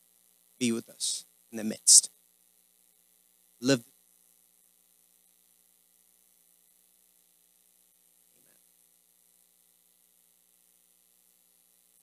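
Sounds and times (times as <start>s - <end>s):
faint electrical hum and hiss: 0.0s - 12.0s.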